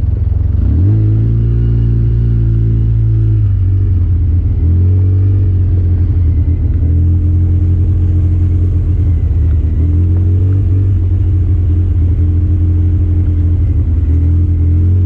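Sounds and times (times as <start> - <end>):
off-road vehicle engine droning: 0.0 - 15.0.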